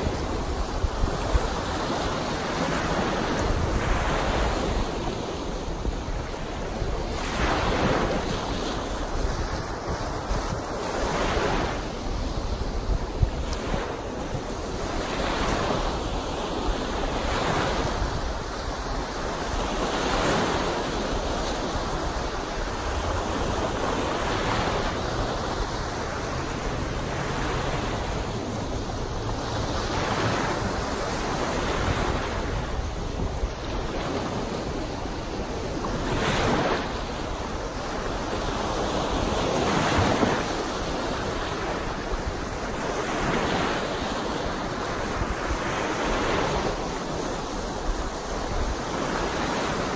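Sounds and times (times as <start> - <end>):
waves breaking on a sandy beach: 0.0 - 49.9
wind buffeting microphone: 0.0 - 49.9.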